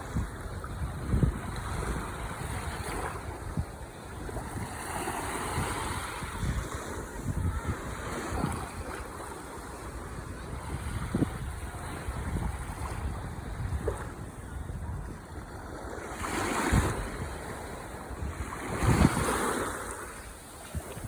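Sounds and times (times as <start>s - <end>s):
wind thumping on microphone: 0.0s - 8.9s, 10.3s - 15.6s, 16.3s - 21.0s
ocean waves breaking on shore: 0.0s - 21.0s.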